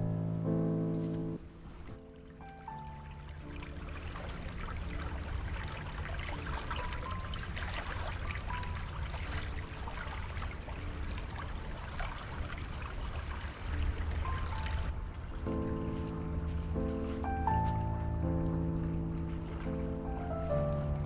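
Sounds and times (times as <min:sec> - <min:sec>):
soft background music: 0:00.0 - 0:21.0
stream babbling: 0:01.0 - 0:21.0.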